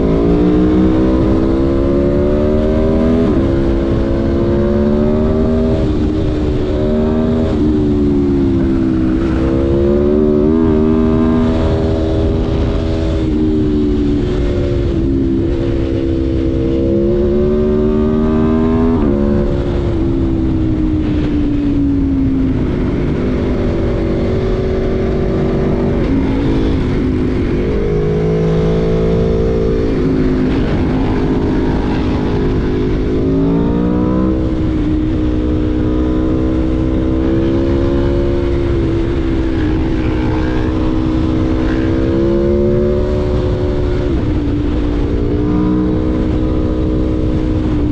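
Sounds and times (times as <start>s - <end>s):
motorcycle engine revving: 0.0s - 47.9s
wind noise: 0.0s - 47.9s.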